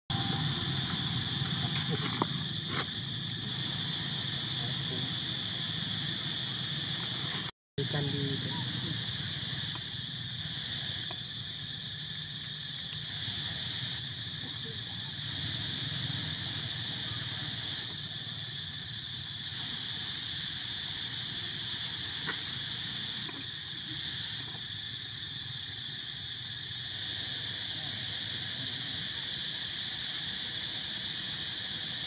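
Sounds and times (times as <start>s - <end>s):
insect chorus shrill drone: 0.1s - 32.0s.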